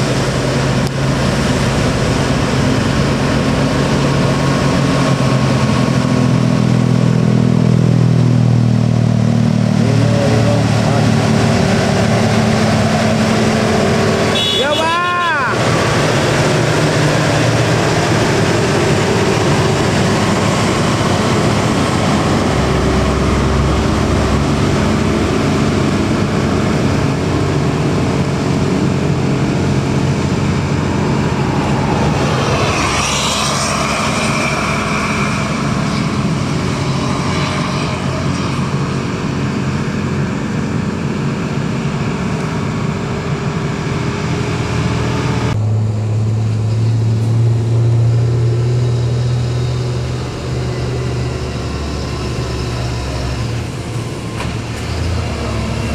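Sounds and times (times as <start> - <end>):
heavy truck engines: 0.0 - 55.9
road traffic noise: 0.0 - 55.9
vehicle passing close by: 0.0 - 55.9.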